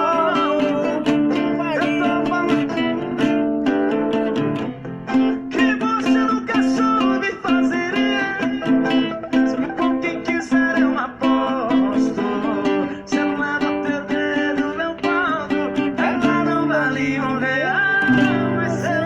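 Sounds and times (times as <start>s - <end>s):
acoustic guitar plucked notes: 0.0s - 19.0s.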